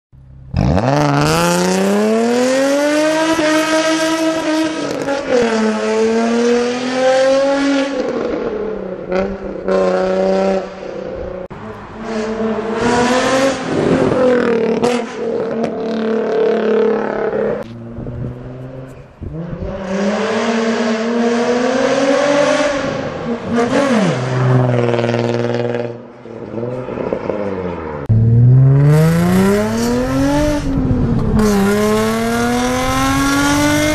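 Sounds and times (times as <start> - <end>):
car engine revving: 0.4 - 10.9, 11.5 - 33.9.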